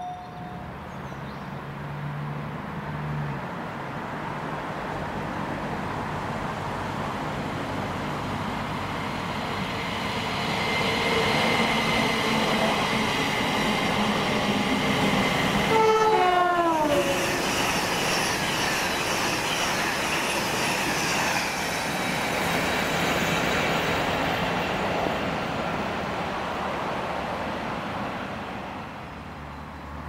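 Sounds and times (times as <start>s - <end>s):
train passing: 0.0s - 30.0s.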